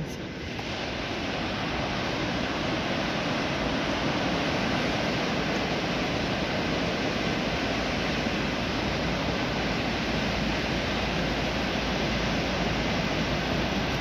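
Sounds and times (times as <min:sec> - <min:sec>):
surf breaking along shore: 0:00.0 - 0:14.0.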